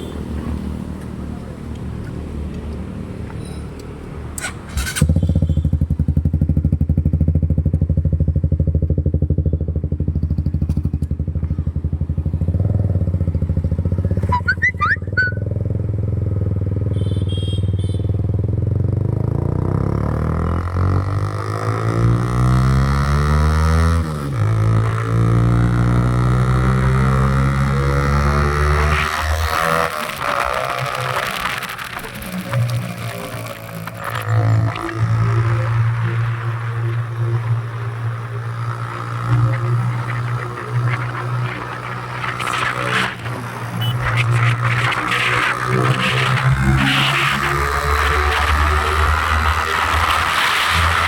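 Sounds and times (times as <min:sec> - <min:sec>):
motorcycle engine revving: 0:04.4 - 0:51.0.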